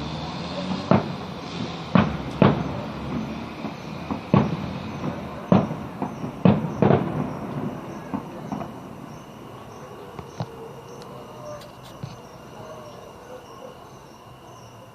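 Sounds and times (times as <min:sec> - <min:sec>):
fireworks exploding: 0:00.0 - 0:12.6.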